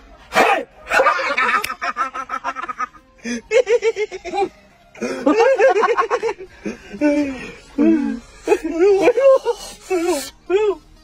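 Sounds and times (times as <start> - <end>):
people laughing: 0.9 - 10.2.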